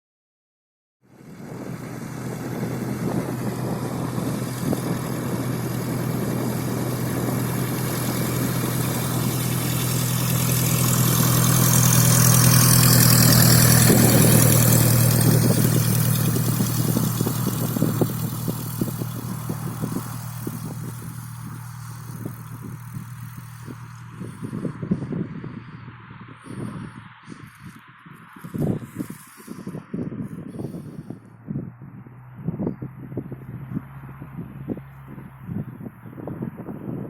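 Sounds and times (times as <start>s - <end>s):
small plane engine drone: 1.0s - 37.0s.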